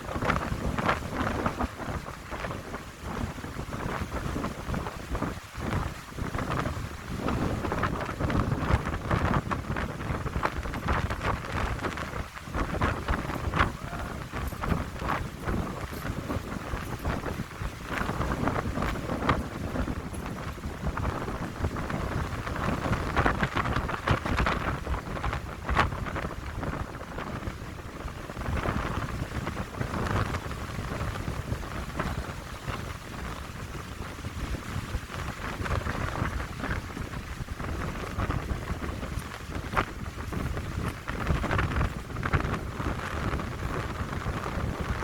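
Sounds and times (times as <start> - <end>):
wind buffeting microphone: 0.0 - 45.0
wind rushing through pines: 0.0 - 45.0.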